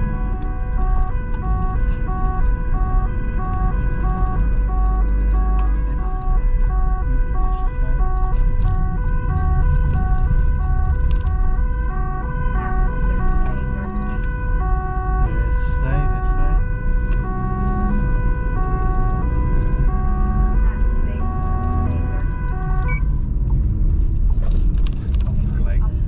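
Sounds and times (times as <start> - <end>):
two-tone police siren: 0.0 - 24.1
car engine: 0.0 - 26.0
road noise: 0.0 - 26.0.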